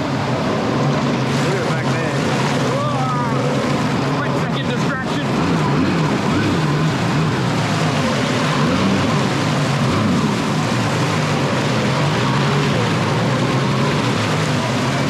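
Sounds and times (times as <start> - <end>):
jet ski engine running: 0.0 - 15.0
rushing noise: 0.0 - 15.0.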